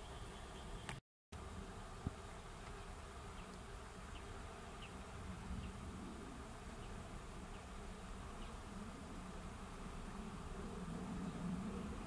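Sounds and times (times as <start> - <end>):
insect buzzing: 0.0 - 12.0.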